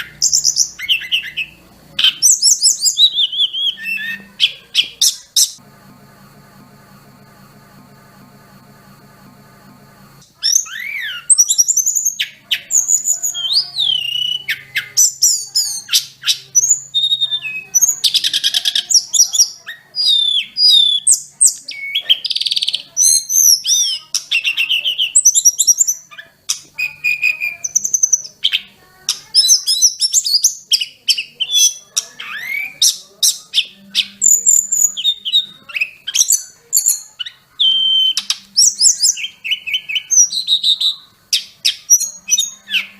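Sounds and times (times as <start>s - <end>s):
flycatcher song: 0.0s - 42.9s.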